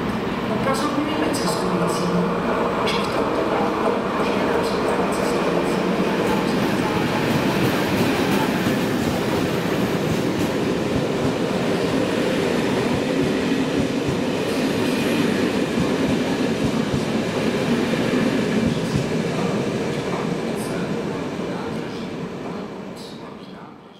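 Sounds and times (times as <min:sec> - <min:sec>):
train wheels rumbling on rails: 0:00.0 - 0:23.2.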